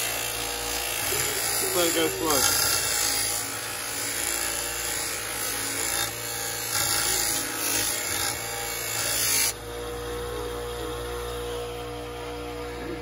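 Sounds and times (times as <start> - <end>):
bench grinder grinding: 0.0 - 13.0
motor humming: 0.0 - 13.0.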